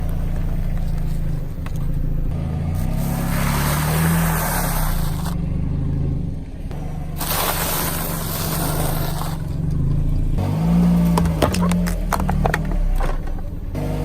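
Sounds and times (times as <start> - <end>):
tyres rolling: 0.0 - 5.4, 6.7 - 14.0
car engine running: 0.0 - 14.0.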